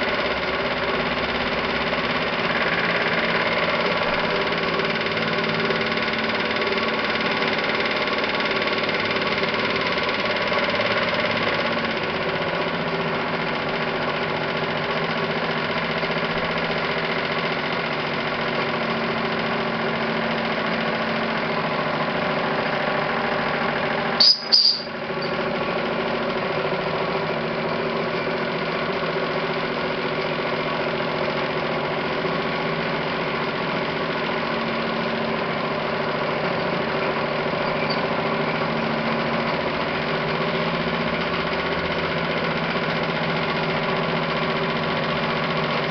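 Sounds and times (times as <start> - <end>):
model steam engine running: 0.0 - 24.2, 24.8 - 45.9.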